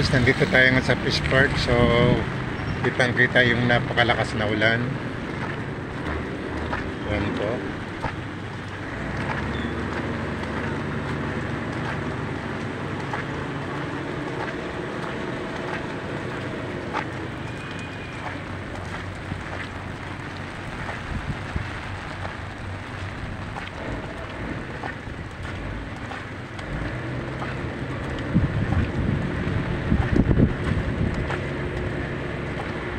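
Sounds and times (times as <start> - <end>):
heavy rain on concrete: 0.0 - 32.9
low rumble: 0.0 - 32.9.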